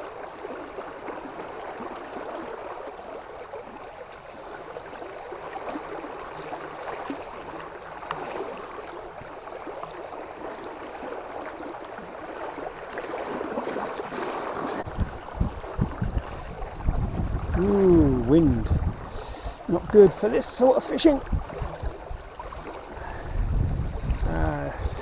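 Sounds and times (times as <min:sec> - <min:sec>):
river water flowing: 0:00.0 - 0:25.0.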